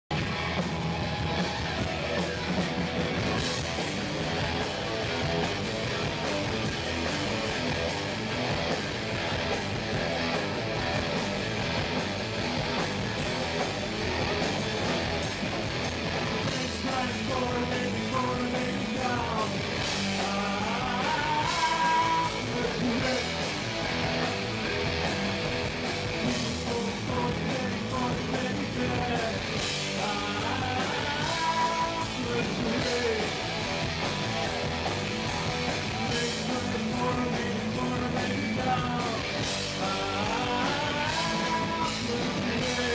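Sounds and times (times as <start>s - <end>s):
electric guitar: 0.1s - 42.9s
steady drum beat: 0.1s - 42.9s.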